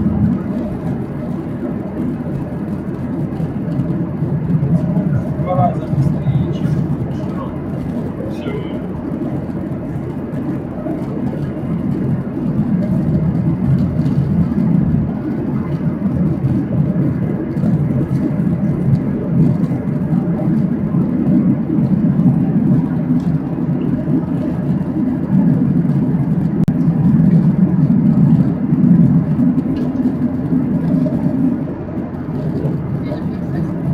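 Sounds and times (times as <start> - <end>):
airplane cabin roar: 0.0 - 33.9.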